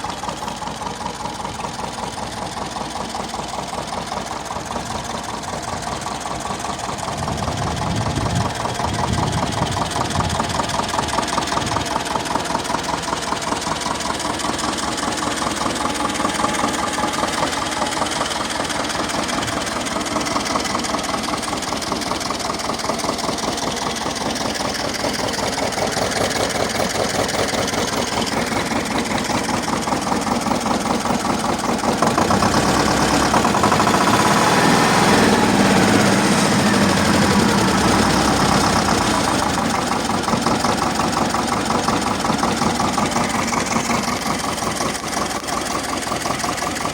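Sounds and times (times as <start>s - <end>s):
tractor diesel engine knocking: 0.0s - 46.9s.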